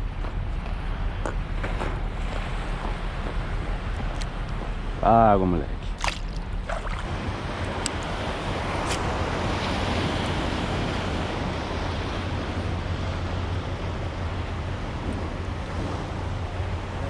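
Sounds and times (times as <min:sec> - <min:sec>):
sea water washing around kayak: 0:00.0 - 0:17.0
wind buffeting microphone: 0:00.0 - 0:17.0.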